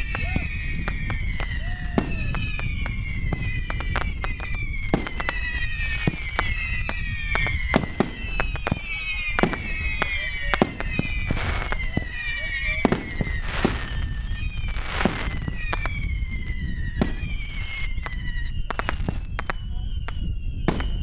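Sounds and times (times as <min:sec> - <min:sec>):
falling firework whistle: 0:00.0 - 0:21.0
fireworks bangs and cracks: 0:00.0 - 0:21.0.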